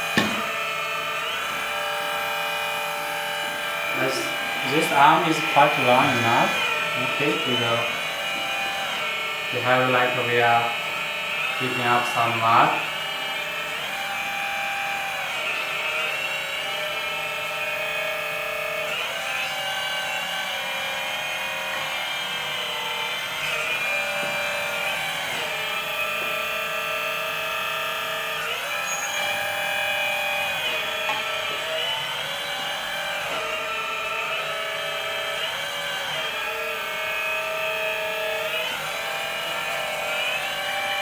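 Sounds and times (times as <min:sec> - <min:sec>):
electric hydraulic pumps whining: 0:00.0 - 0:41.0.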